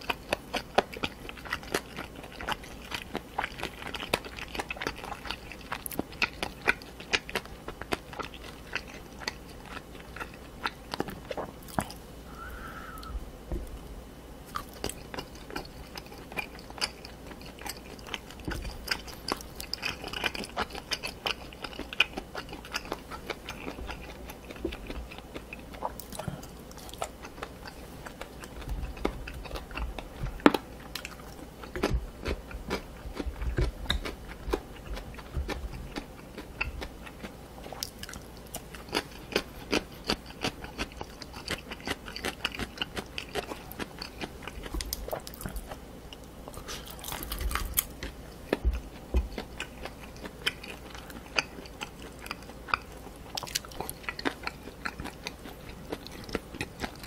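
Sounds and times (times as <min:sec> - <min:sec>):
wet crunchy chewing: 0:00.0 - 0:13.8, 0:14.4 - 0:57.0.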